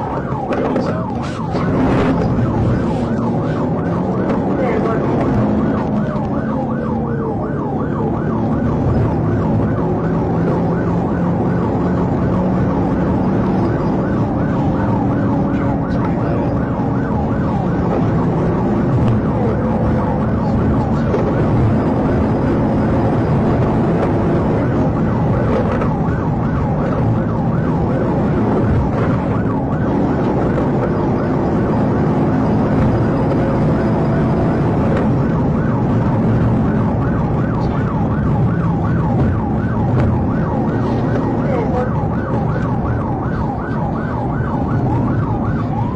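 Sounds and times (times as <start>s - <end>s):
electronic siren yelping: 0.0s - 45.9s.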